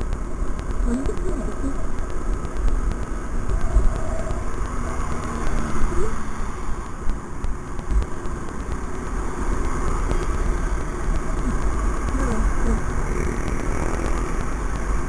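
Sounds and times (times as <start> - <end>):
motorcycle engine: 0.0 - 15.0
wind rumbling on microphone: 0.0 - 15.0.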